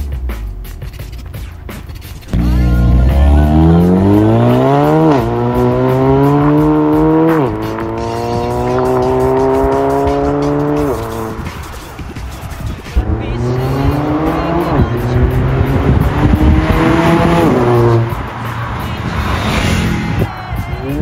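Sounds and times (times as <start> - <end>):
car exhaust under hard acceleration: 2.2 - 20.3.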